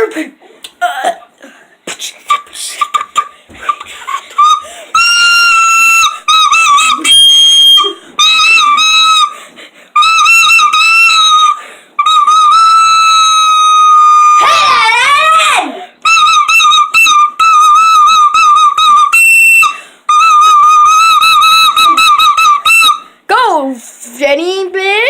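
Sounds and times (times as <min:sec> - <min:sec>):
shrill flute notes: 0:02.4 - 0:09.4, 0:10.0 - 0:23.2.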